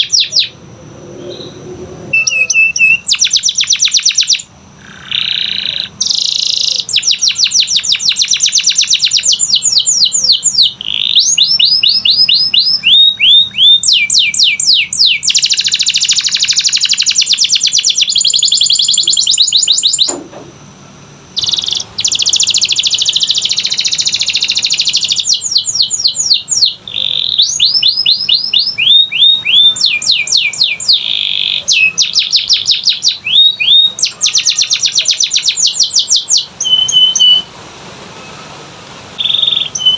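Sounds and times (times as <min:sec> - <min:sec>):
canary singing: 0:00.0 - 0:20.2, 0:21.3 - 0:39.9.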